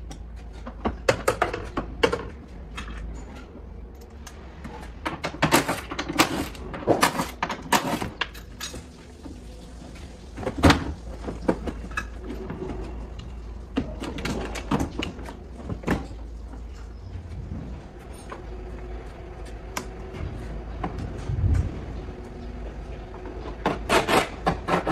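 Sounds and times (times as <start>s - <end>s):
low workshop hum: 0.0s - 24.9s.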